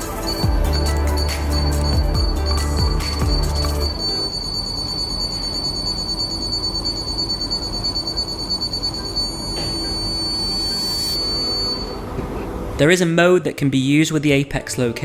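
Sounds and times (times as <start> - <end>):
high-pitched electronic tone: 0.0 - 12.2.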